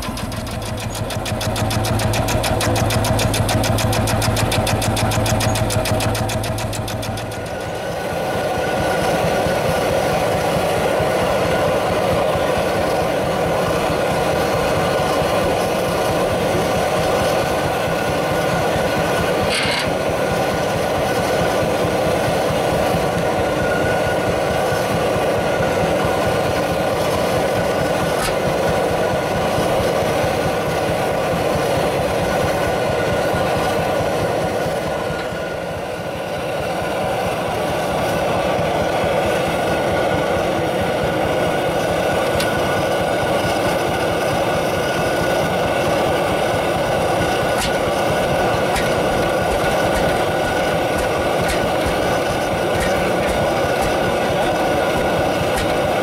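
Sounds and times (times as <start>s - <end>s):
single-cylinder tractor engine running: 0.0s - 56.0s.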